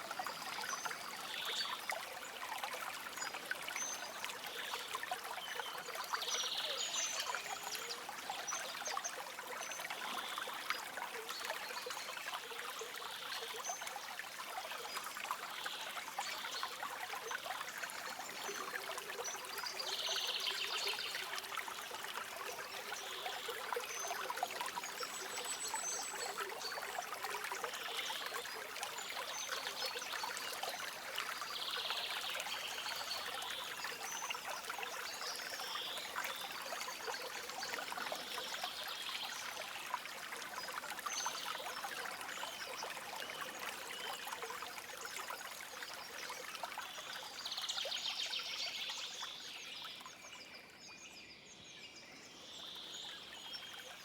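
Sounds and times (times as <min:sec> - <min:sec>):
stream babbling over stones: 0:00.0 - 0:50.5.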